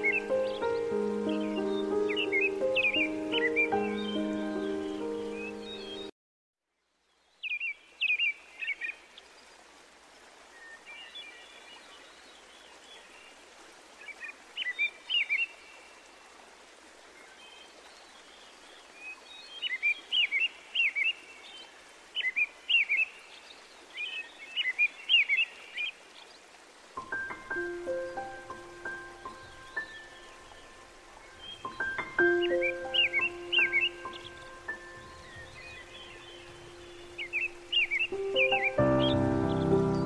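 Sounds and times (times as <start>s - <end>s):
faint outdoor hiss: 0.0s - 6.1s, 6.7s - 40.0s
songbird chirping: 0.0s - 6.1s, 6.8s - 40.0s.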